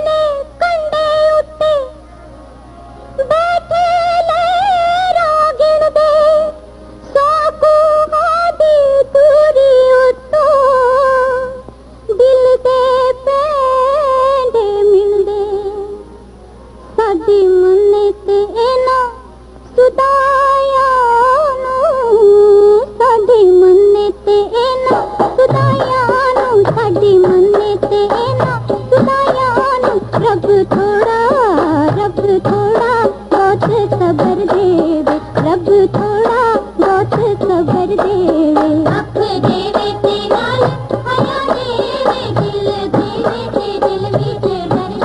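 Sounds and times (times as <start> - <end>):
ornamented high vocal melody: 0.0 - 16.2, 17.0 - 45.0.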